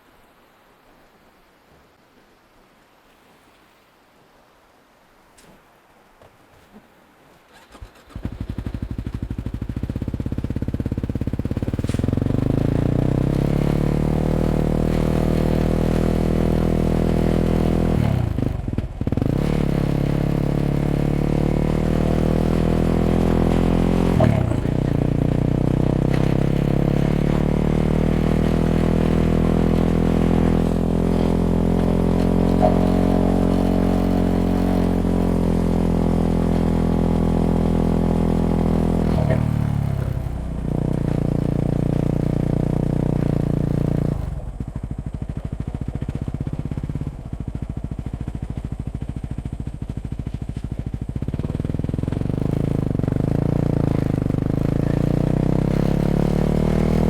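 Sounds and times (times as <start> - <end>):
motorcycle engine revving: 7.6 - 57.0.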